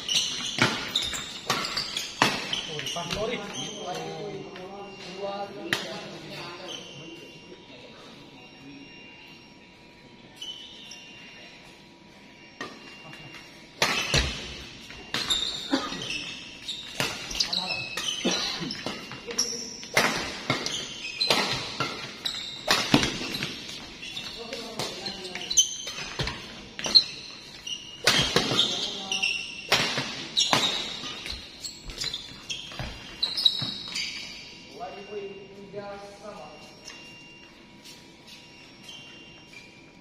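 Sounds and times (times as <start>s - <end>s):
shoes squeaking on floor: 0.0s - 7.4s, 10.2s - 11.8s, 12.4s - 40.0s.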